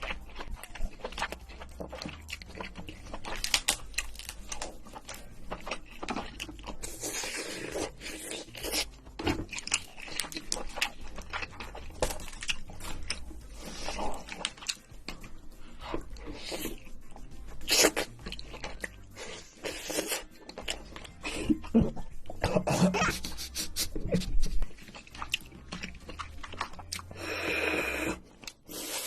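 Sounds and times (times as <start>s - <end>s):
crab shell crunching: 0.0s - 27.2s
chewing: 0.0s - 29.0s.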